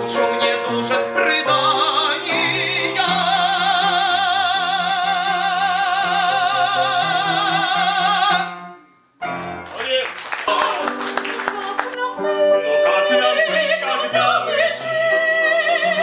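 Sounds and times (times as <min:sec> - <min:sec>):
musical accompaniment: 0:00.0 - 0:16.0.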